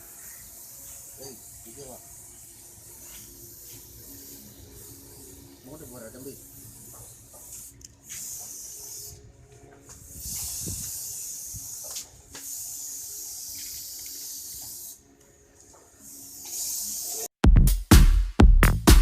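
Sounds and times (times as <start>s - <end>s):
paint spray hissing: 0.0s - 17.4s.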